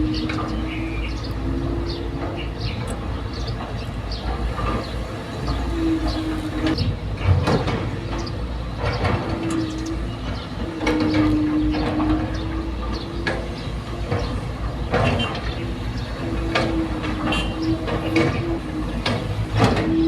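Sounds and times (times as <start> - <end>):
excavator engine rumble: 0.0 - 20.0
metal clanks and knocks: 0.0 - 20.0.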